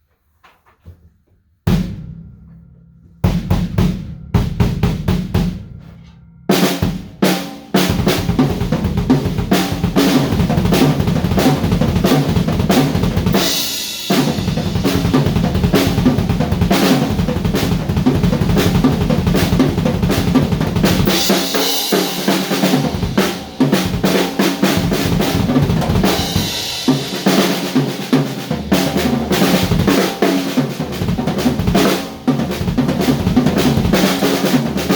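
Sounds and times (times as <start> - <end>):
drum kit playing: 1.7 - 34.9.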